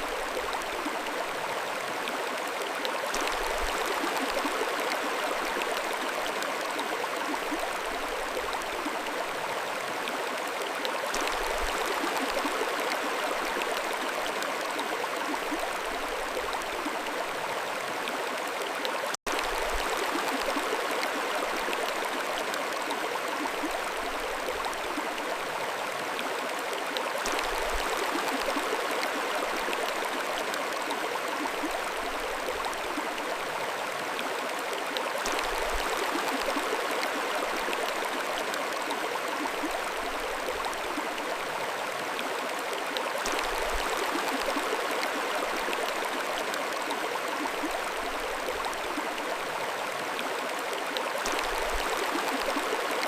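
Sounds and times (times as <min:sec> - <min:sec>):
stream flowing: 0:00.0 - 0:53.0.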